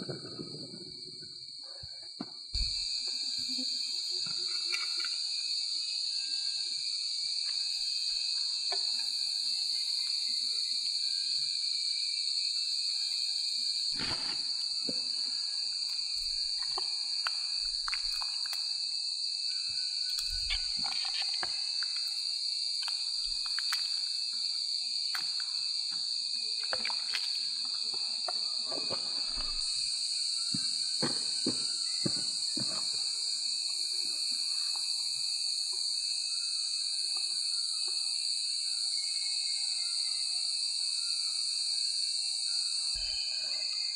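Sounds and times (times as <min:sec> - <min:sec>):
high insect drone: 0:00.0 - 0:43.9.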